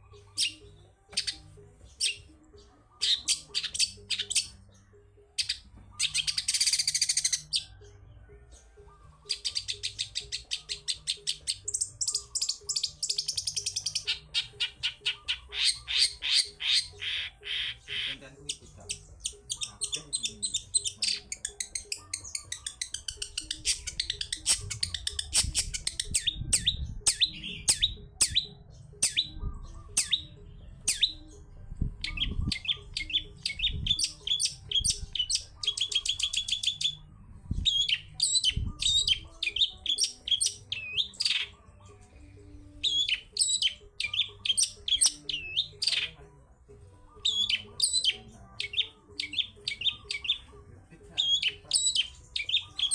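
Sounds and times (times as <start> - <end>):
bird singing chips and trills: 0.0 - 46.2, 47.1 - 50.5, 51.1 - 52.9.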